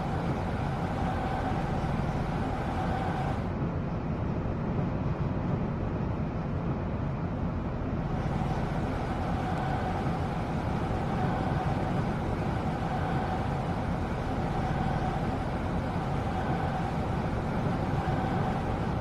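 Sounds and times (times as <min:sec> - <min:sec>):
subway train rumble: 0:00.0 - 0:19.0
train whine: 0:00.0 - 0:19.0.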